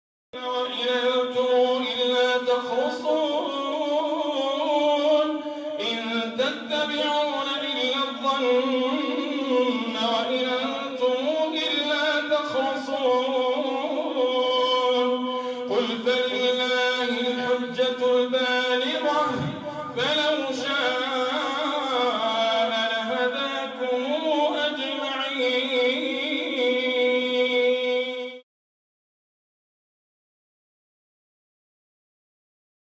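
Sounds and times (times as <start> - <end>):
man chanting recitation: 0.4 - 28.4.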